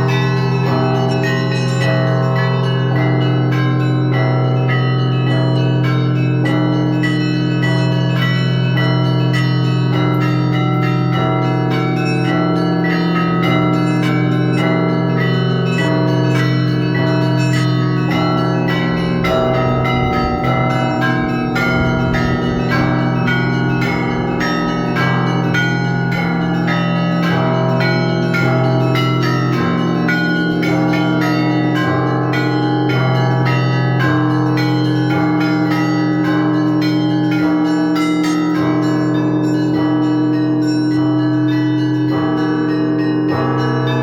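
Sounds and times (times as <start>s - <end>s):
large low bells ringing: 0.0s - 44.0s
small bells struck rhythmically: 0.0s - 44.0s.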